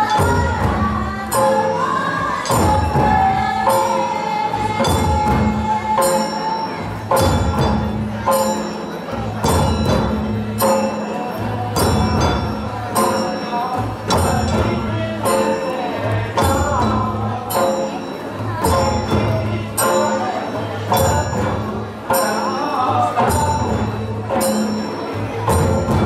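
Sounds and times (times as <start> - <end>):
hand drums beating: 0.0 - 26.0.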